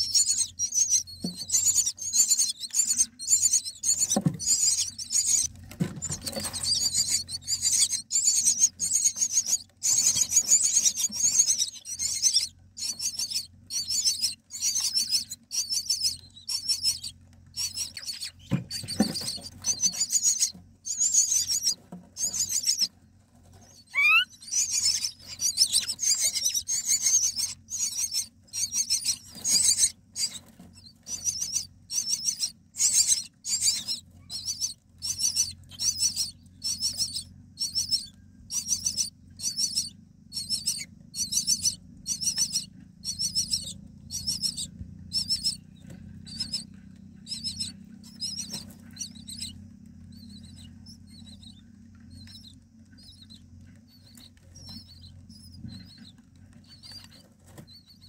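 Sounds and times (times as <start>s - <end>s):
nestlings rasping begging calls: 0.0s - 58.0s.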